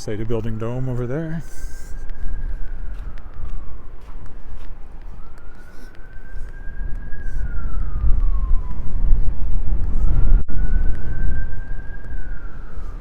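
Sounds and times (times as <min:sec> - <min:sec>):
distant siren wailing: 0:00.0 - 0:13.0
wind buffeting microphone: 0:00.0 - 0:13.0.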